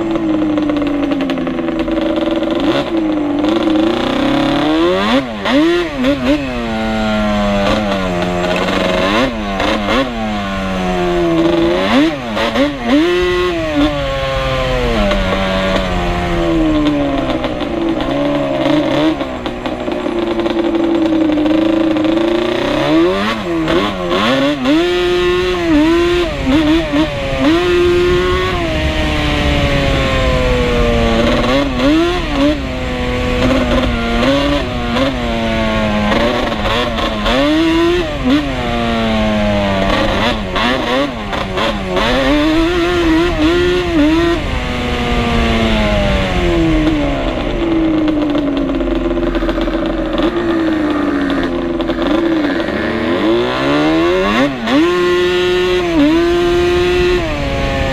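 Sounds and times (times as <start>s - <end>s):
two-stroke atv engine revving: 0.0s - 57.9s.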